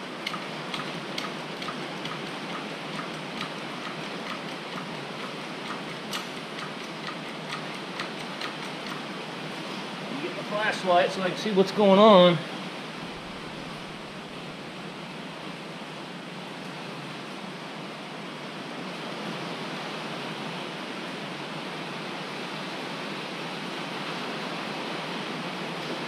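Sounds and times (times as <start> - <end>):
steady rushing hiss: 0.0 - 26.0.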